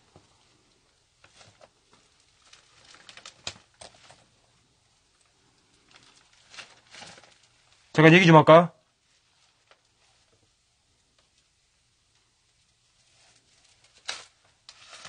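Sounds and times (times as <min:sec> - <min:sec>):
faint clicks and rustles: 0:00.0 - 0:07.9, 0:08.9 - 0:15.0.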